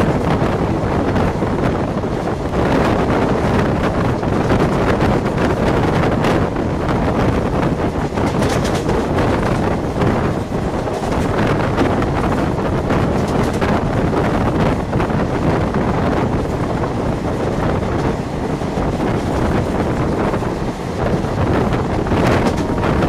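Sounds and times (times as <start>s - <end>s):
train rumbling on rails: 0.0s - 23.0s
wind buffeting microphone: 0.0s - 23.0s.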